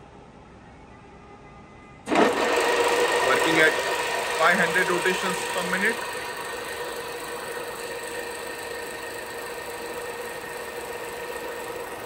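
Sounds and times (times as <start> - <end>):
milling machine spindle humming: 2.1 - 12.0.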